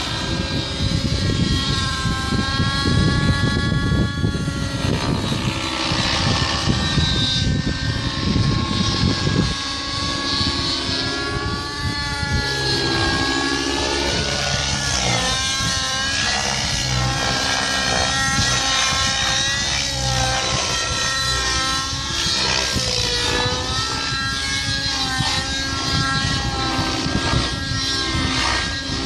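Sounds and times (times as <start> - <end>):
radio-controlled helicopter flying: 0.0 - 29.0.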